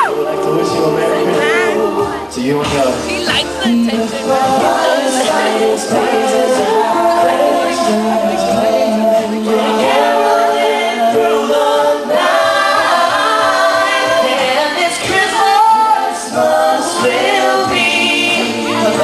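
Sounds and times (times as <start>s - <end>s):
men singing a cappella: 0.0s - 19.0s.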